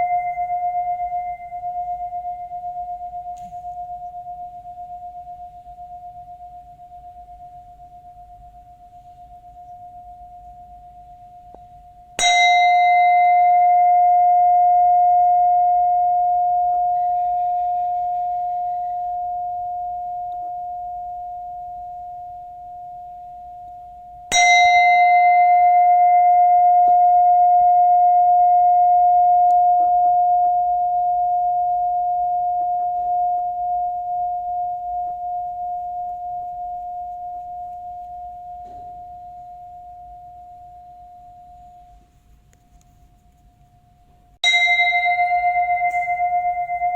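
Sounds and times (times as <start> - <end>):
bowl bell ringing: 0.0 - 42.1, 44.4 - 46.9.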